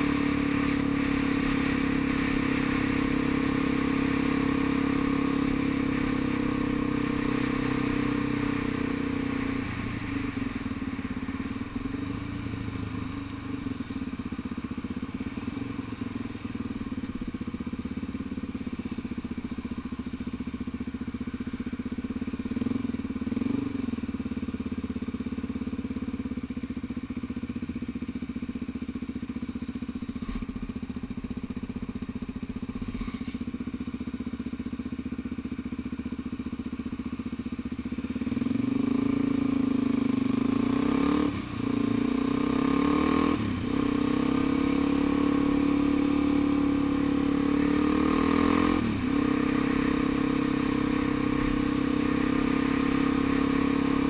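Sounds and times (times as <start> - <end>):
motorcycle engine revving: 0.0 - 26.3, 28.9 - 54.0
motorcycle engine: 0.0 - 54.0.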